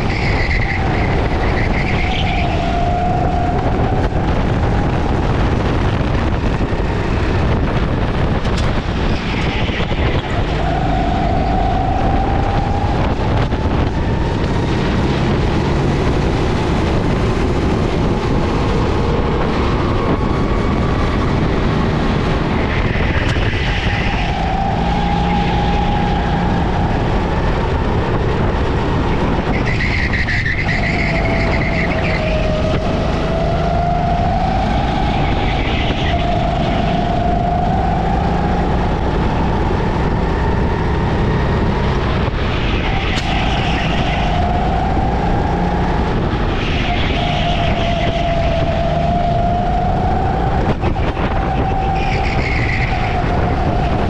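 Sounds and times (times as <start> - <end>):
go-kart engine revving: 0.0 - 54.0
rush of noise: 0.0 - 54.0.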